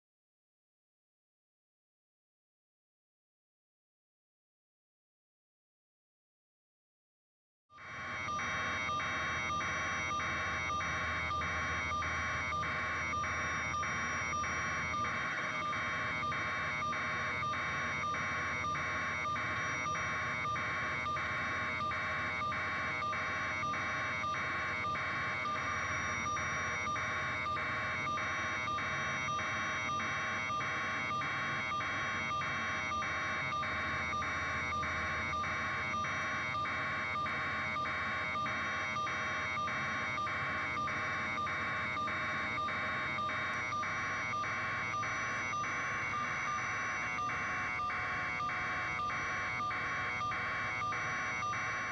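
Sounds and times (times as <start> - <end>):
pulsing electronic alarm: 7.7 - 51.9.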